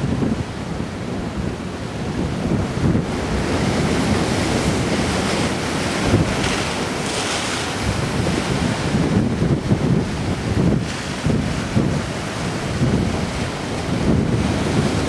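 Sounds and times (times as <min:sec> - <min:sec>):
waves washing against a breakwater: 0:00.0 - 0:15.0
wind buffeting microphone: 0:00.0 - 0:15.0.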